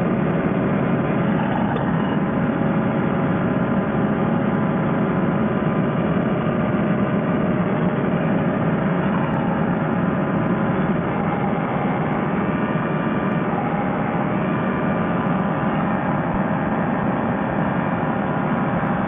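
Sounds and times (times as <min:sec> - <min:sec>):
paramotor engine and propeller: 0:00.0 - 0:19.0.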